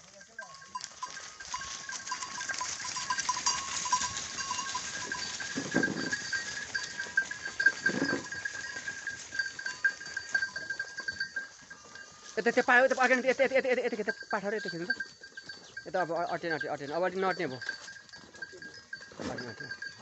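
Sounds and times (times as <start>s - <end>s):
goats bleating: 0.0s - 20.0s
herd feeding background noise: 0.0s - 20.0s.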